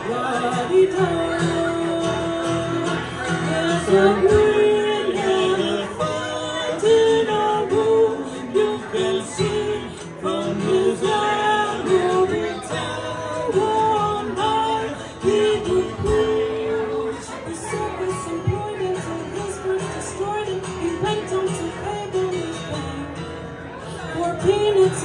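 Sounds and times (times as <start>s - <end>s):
woman singing: 0.0s - 23.1s, 24.1s - 25.0s
acoustic guitar: 0.0s - 25.0s.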